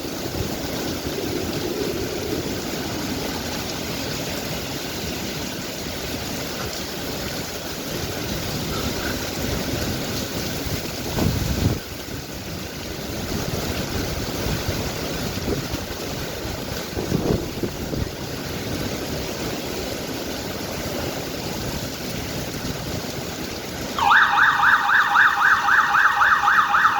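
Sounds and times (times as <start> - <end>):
heavy rain and wind: 0.0 - 26.9.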